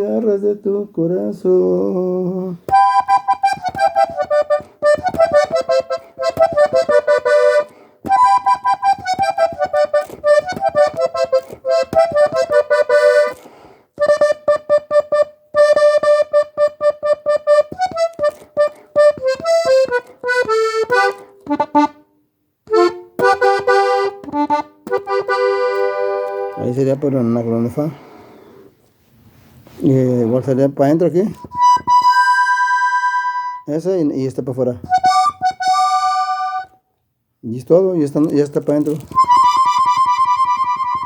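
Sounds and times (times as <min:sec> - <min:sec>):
button accordion melody: 0:02.4 - 0:28.1, 0:30.4 - 0:36.9, 0:38.0 - 0:41.0.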